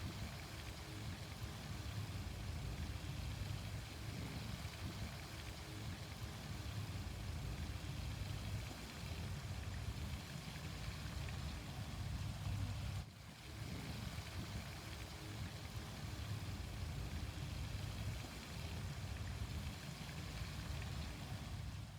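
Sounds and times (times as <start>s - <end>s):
fountain water splashing: 0.0s - 21.9s.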